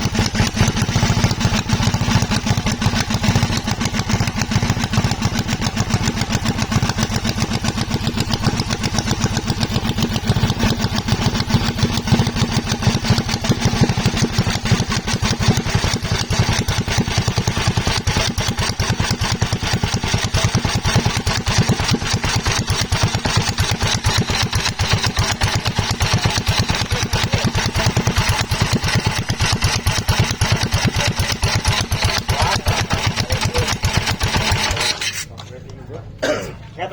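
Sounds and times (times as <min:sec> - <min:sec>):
single-cylinder engine running: 0:00.0 - 0:36.9.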